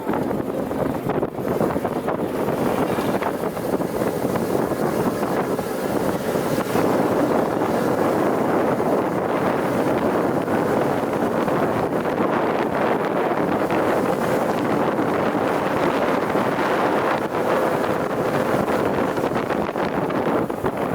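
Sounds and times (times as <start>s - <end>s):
truck driving: 0.0s - 20.9s
wind buffeting microphone: 0.0s - 20.9s.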